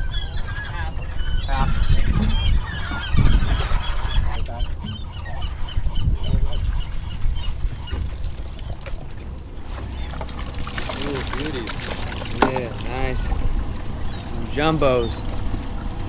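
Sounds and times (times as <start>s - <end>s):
gulls calling: 0.0s - 16.0s
wind rumble: 0.0s - 16.0s.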